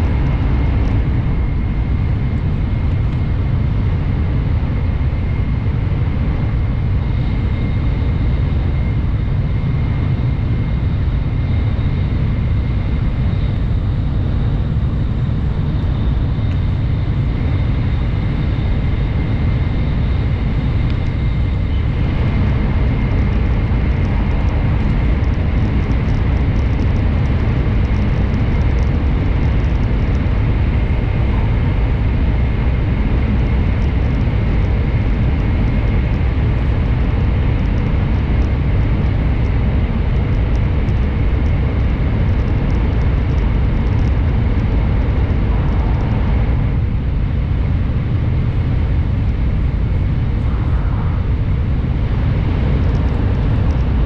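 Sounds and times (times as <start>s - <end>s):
thin steady whine: 0.0s - 54.0s
train wheels and airflow rumble: 0.0s - 54.0s.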